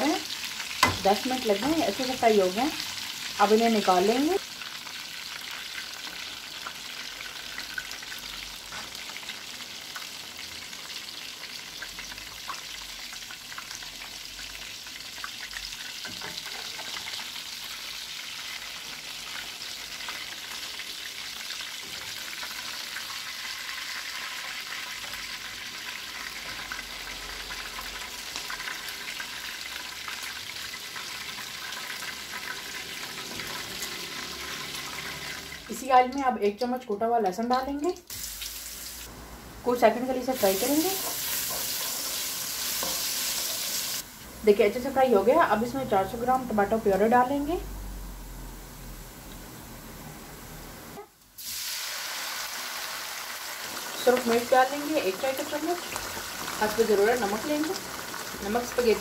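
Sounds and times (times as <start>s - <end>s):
meatballs sizzling in oil: 0.0s - 59.0s.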